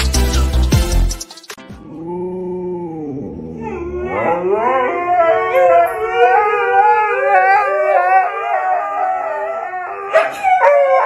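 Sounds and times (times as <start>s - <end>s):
dogs howling: 1.8s - 11.0s.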